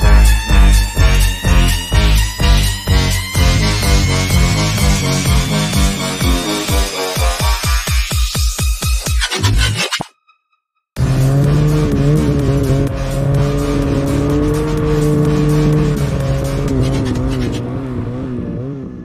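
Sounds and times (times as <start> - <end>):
snowmobile engine at high revs: 0.0 - 7.7, 11.0 - 19.0.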